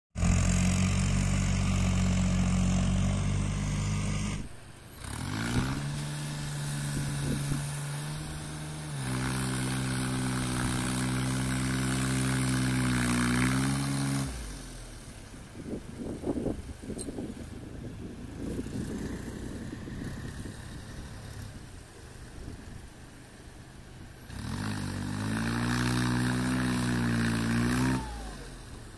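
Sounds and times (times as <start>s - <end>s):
diesel tractor engine under load: 0.2s - 28.9s.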